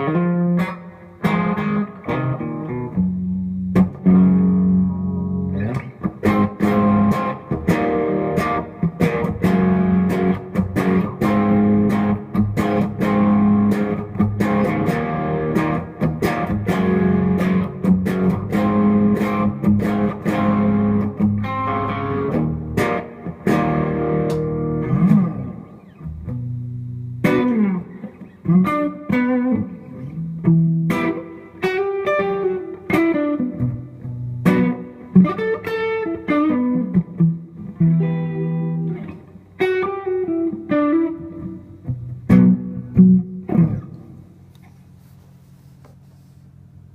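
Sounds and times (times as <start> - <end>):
electric guitar playing: 0.0 - 44.5.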